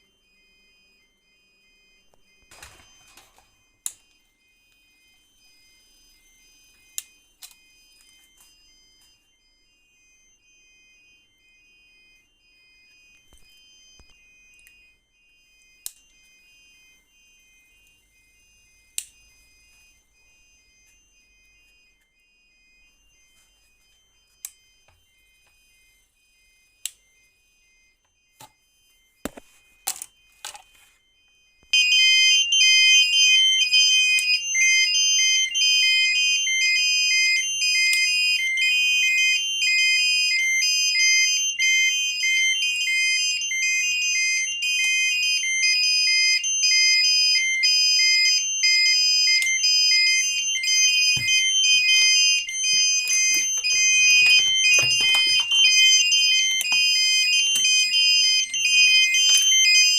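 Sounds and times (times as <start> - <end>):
fire alarm beeping: 0.0 - 59.9.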